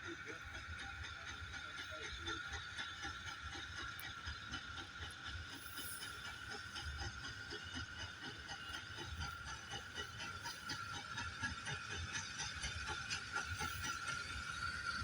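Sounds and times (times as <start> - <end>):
train rolling low rumble: 0.0 - 15.0.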